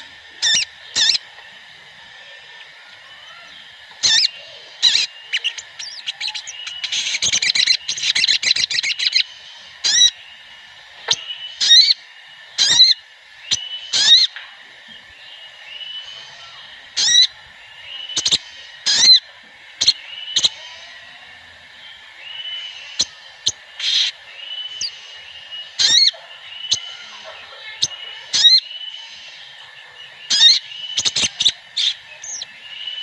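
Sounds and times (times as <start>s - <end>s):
bird chirping: 0.0s - 10.4s, 11.0s - 33.0s.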